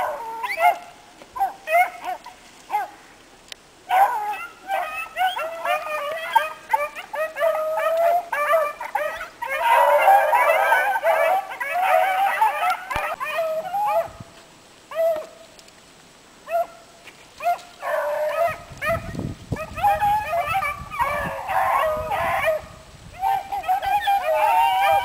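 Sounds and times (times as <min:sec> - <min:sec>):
hounds baying and barking: 0:00.0 - 0:03.0, 0:03.9 - 0:14.3, 0:16.4 - 0:16.8, 0:17.4 - 0:25.0.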